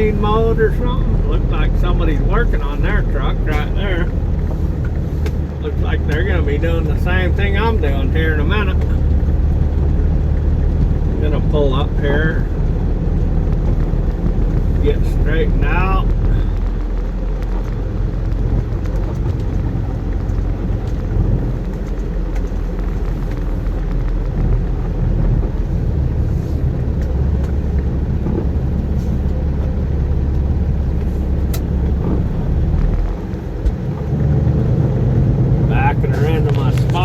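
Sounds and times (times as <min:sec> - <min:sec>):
truck diesel engine rumbling: 0:00.0 - 0:37.0.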